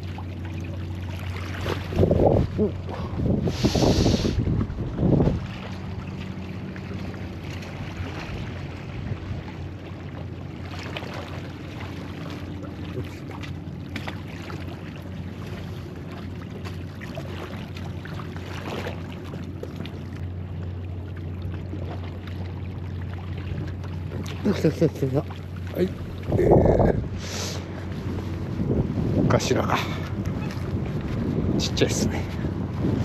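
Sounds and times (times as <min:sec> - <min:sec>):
low engine hum: 0:00.0 - 0:33.0.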